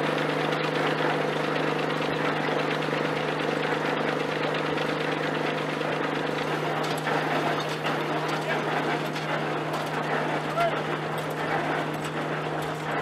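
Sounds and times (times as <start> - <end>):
machinery ticks and knocks: 0.0 - 13.0
tractor engine running: 0.0 - 13.0.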